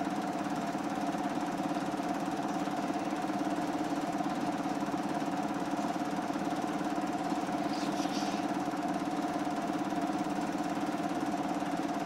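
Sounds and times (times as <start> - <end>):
motor running: 0.9 - 12.0.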